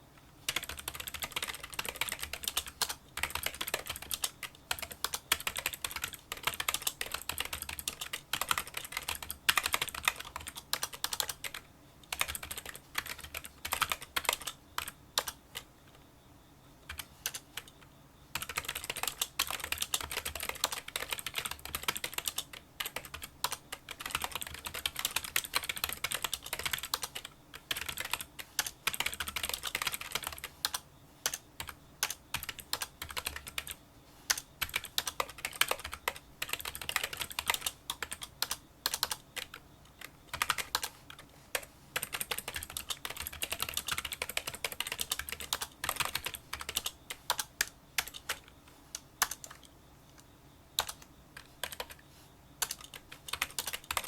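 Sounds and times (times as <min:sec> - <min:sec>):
fast typing on keyboard: 0:00.5 - 0:15.7, 0:16.9 - 0:49.7, 0:50.8 - 0:52.0, 0:52.6 - 0:54.0.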